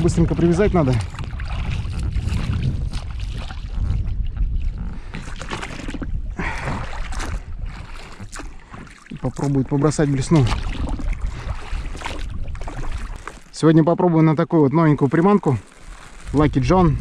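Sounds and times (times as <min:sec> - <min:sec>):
wind on microphone: 0:00.0 - 0:13.3, 0:15.5 - 0:17.0
oars splashing through water: 0:00.0 - 0:17.0.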